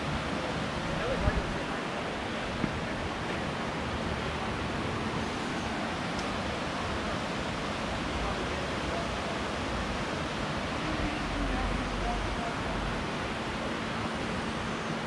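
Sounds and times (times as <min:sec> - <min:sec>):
rain falling: 0:00.0 - 0:15.0
rocky creek flowing: 0:00.0 - 0:15.0.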